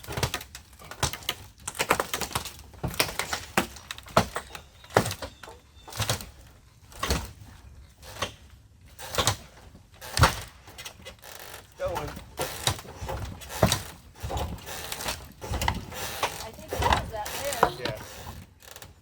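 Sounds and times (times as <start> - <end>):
knocks and bangs of wood structure: 0.0 - 19.0.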